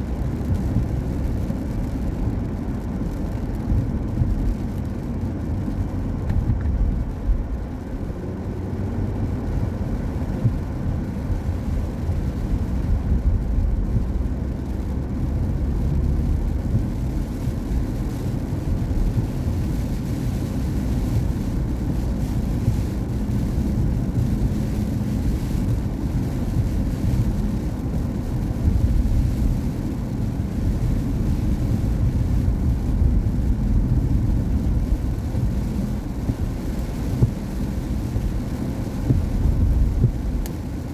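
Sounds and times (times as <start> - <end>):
car tyre noise on wet road: 0.0 - 40.9.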